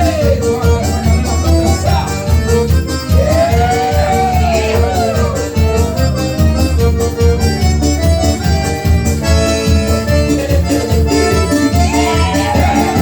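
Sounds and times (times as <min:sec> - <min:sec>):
accordion melody: 0:00.0 - 0:13.0.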